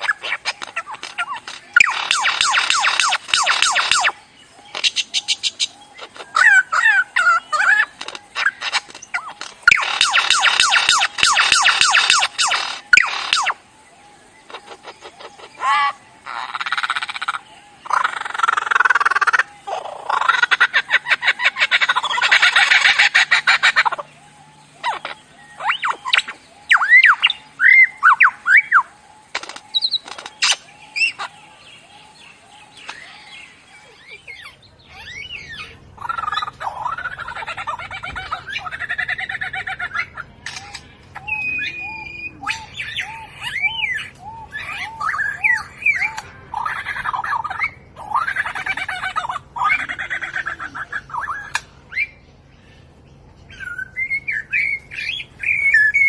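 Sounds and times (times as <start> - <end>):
birds chattering song: 0.0 - 56.0
birds chirping and whistling: 0.0 - 56.0.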